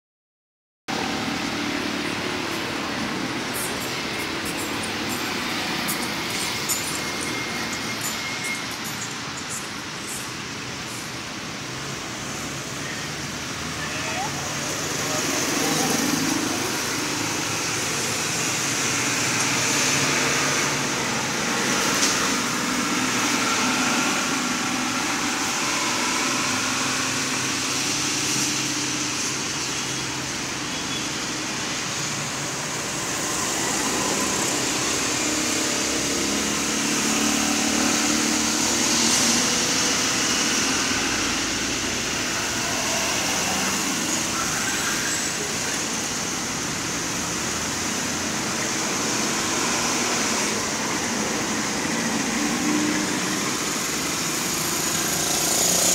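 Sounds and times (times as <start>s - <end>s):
cars passing: 0.9s - 55.9s.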